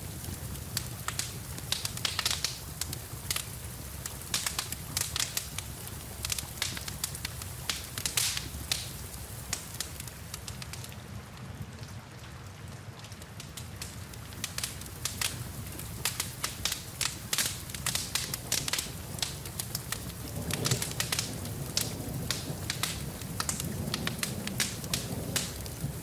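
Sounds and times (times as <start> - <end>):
low rumble of flames: 0.0 - 26.0
rain hiss: 0.0 - 26.0
wood fire crackling and popping: 0.0 - 26.0.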